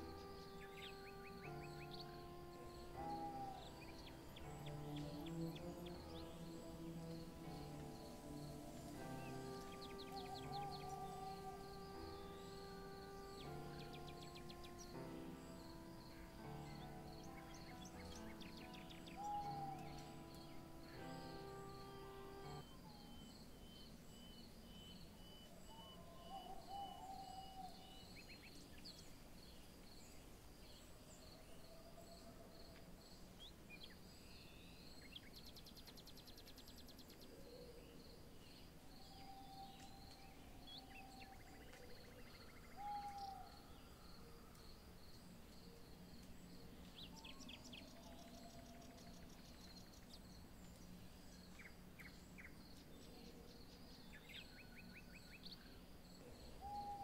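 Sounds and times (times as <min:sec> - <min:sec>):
bird calls: 0:00.0 - 0:29.1, 0:33.5 - 0:57.0
insects chirping: 0:00.0 - 0:57.0.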